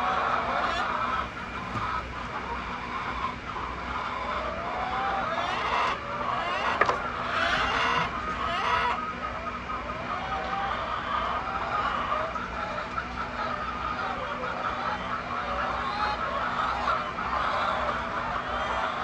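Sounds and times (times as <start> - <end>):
hens clucking and squawking: 0.2 - 19.0.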